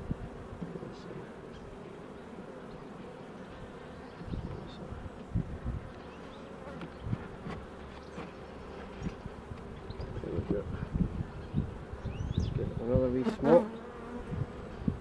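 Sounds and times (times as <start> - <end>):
bee colony buzzing: 0.0 - 15.0.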